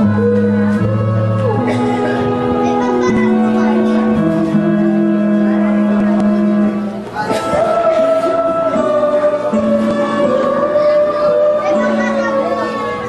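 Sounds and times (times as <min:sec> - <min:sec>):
music of long held notes: 0:00.0 - 0:13.0.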